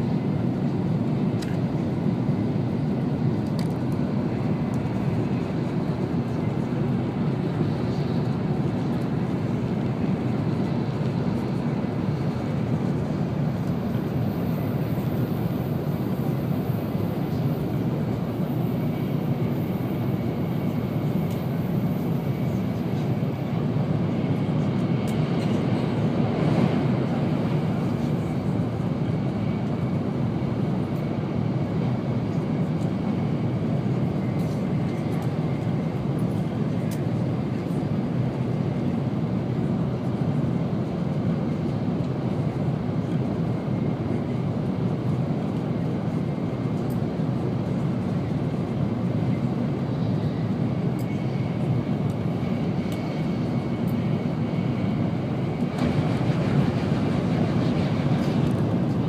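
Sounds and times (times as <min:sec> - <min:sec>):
train rumble inside cabin: 0:00.0 - 0:59.0.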